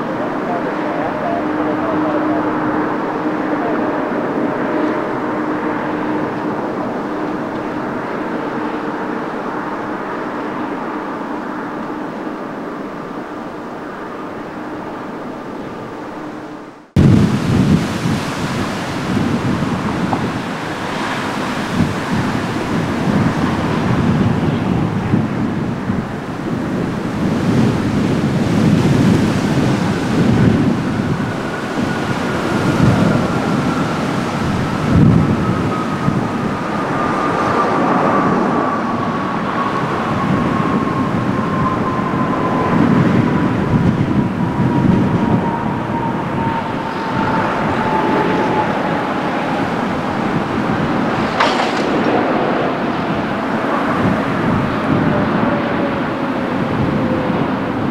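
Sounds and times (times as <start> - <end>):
jet engine whine: 0.0 - 57.9
jet engines roaring: 0.0 - 57.9.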